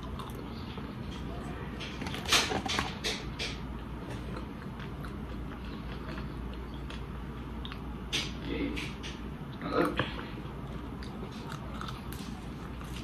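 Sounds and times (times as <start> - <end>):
person chewing fries: 0.0 - 1.1, 2.0 - 8.3, 9.4 - 13.0.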